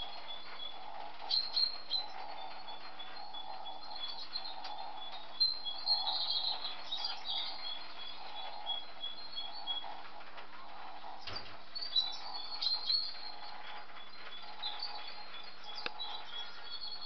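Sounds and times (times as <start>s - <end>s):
bird chirping: 0.0s - 17.0s
steady low hum: 0.0s - 17.0s.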